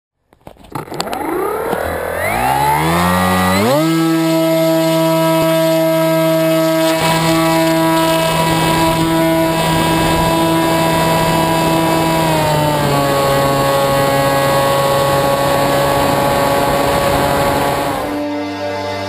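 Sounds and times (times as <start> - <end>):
electric motor and propeller whine: 0.7 - 19.0.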